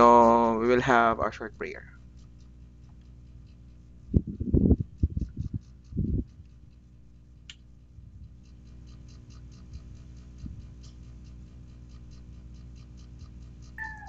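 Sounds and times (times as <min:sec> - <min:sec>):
faint even ticking: 0:00.0 - 0:14.0
low steady hum: 0:00.0 - 0:14.0.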